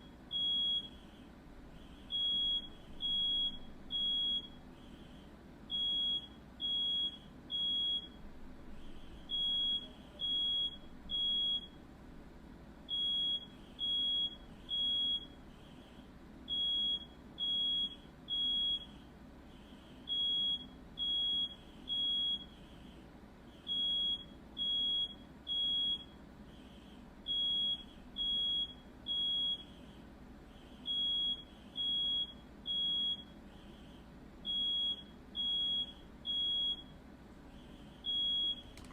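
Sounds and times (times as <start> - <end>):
smoke alarm beeping: 0.0 - 1.2, 1.8 - 11.8, 12.9 - 15.9, 16.5 - 19.0, 20.1 - 22.6, 23.6 - 29.8, 30.6 - 33.8, 34.4 - 37.0, 38.0 - 38.8
faint steady hum: 0.0 - 38.9.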